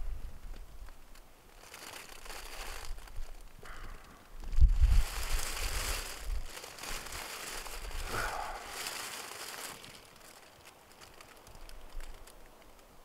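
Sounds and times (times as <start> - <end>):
foil blanket crinkling: 0.8 - 12.8.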